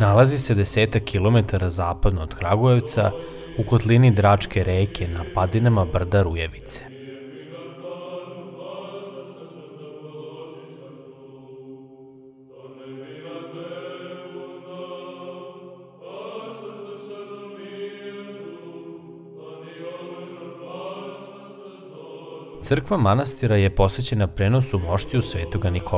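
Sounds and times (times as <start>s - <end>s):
slow religious chant: 0.0s - 25.9s.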